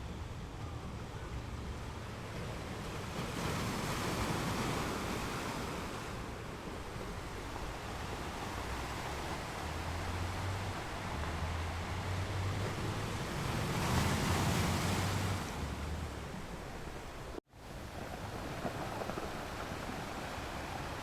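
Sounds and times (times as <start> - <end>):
sea waves washing in: 1.0 - 21.0.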